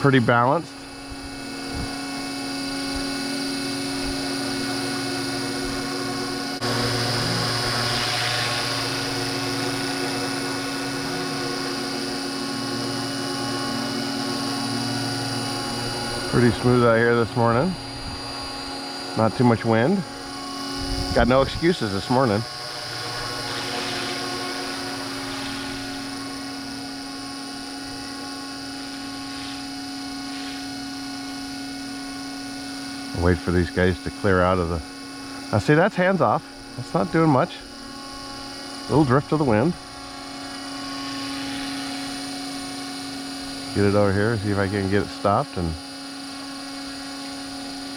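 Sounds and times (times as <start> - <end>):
rc helicopter motor whine: 0.0 - 47.9.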